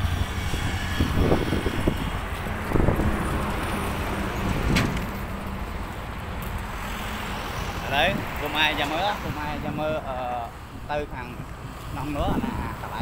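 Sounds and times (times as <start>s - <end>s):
motorbikes and cars passing: 0.0s - 13.0s.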